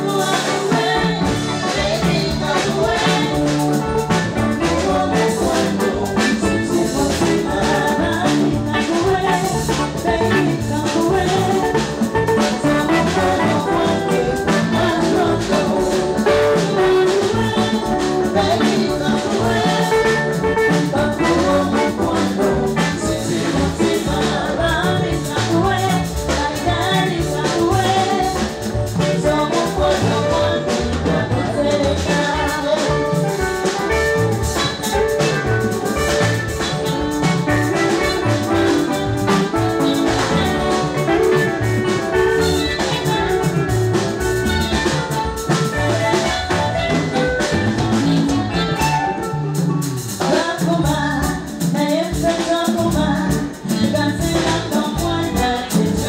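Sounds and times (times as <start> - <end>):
congas: 0.0 - 56.0
electric guitar: 0.0 - 56.0
keyboard: 0.0 - 56.0
woman singing: 0.0 - 56.0.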